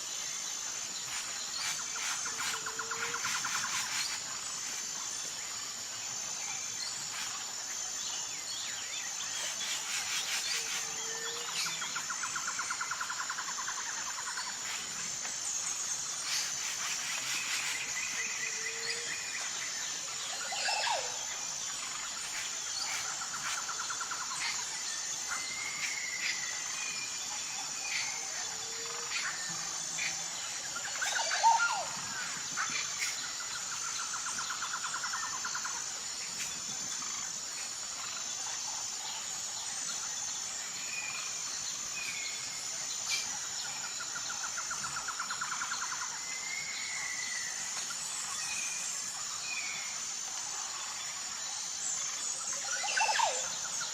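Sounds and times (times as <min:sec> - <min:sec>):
pulsing insect chorus: 0:00.0 - 0:53.9.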